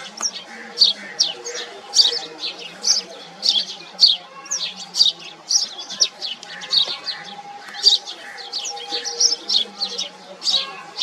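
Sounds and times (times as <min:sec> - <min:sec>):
sparrow chirping: 0:00.0 - 0:11.0.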